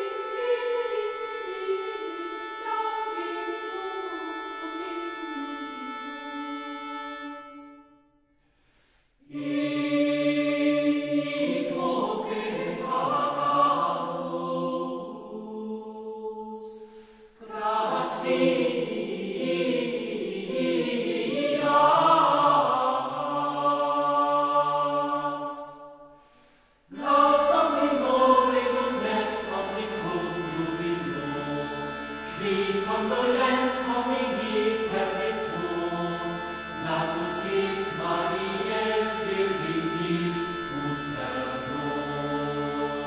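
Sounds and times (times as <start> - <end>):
choir singing held chords: 0.0 - 7.9, 9.2 - 43.0.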